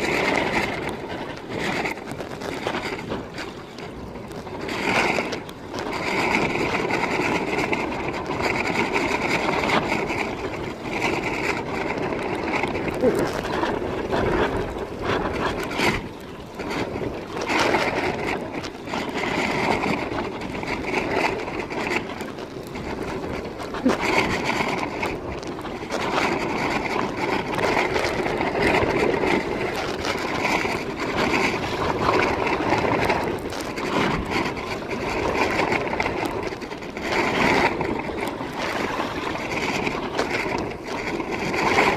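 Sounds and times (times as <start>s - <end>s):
water rushing: 0.0s - 41.9s
wind rushing over microphone: 0.0s - 41.9s.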